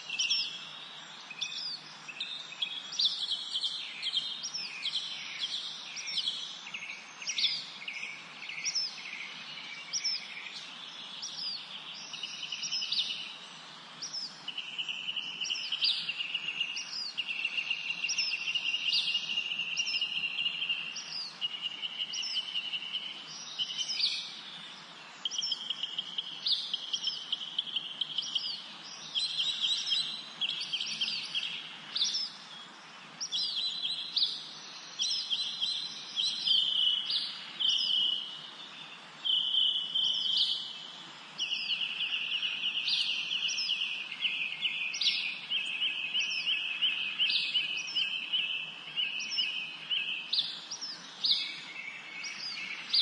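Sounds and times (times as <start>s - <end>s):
faint background hiss: 0.0s - 53.0s
songbirds chirping: 0.0s - 53.0s.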